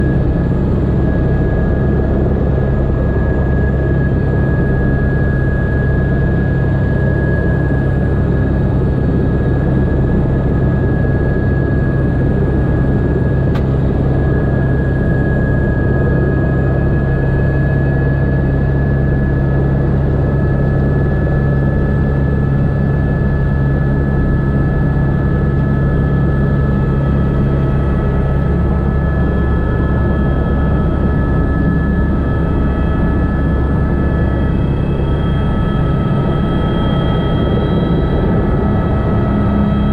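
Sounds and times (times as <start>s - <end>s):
helicopter engine and rotor drone: 0.0s - 39.9s
high turbine whine: 0.0s - 39.9s.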